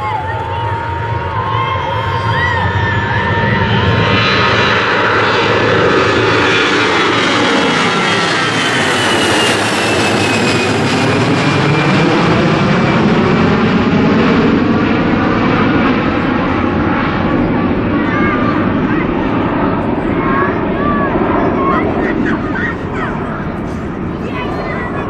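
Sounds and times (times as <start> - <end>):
jet airliner roar overhead: 0.0 - 25.0.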